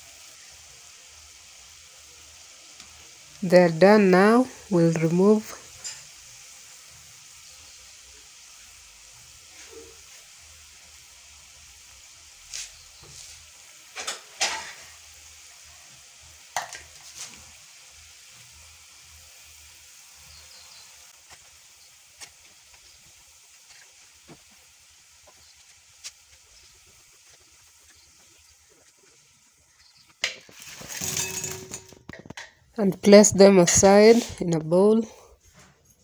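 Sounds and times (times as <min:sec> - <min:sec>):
dough sizzling in hot oil: 0:00.0 - 0:36.0.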